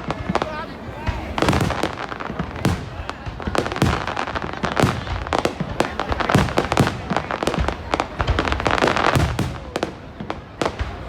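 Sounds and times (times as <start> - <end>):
fireworks bangs and booms: 0.0 - 11.0.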